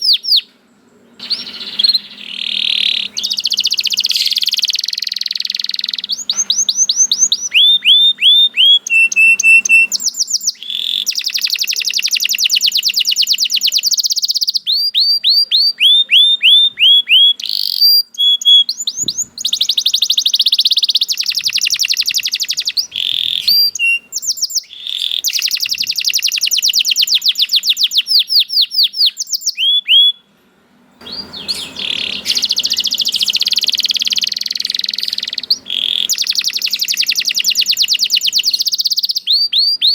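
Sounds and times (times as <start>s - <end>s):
canary singing trills: 0.0s - 30.3s, 31.0s - 39.9s.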